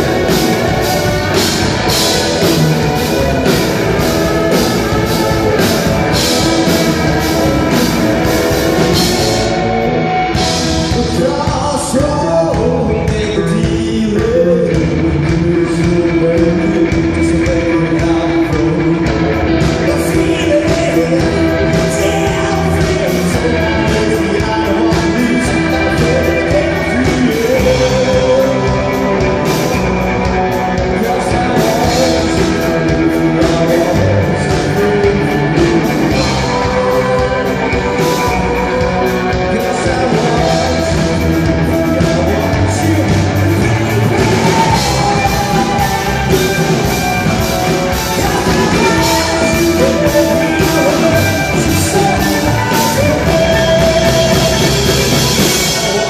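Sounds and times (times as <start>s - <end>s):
loud rock song with singing: 0.0s - 56.0s.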